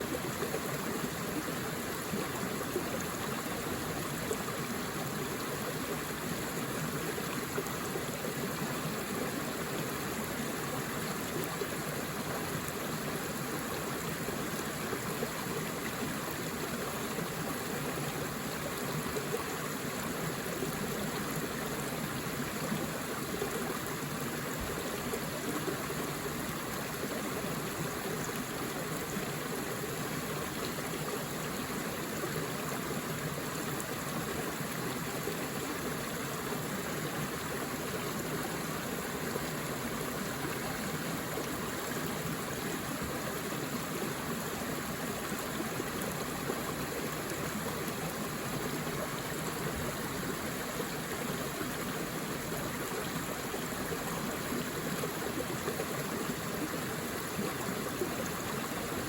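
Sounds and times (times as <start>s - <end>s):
river water over stones: 0.0s - 59.0s.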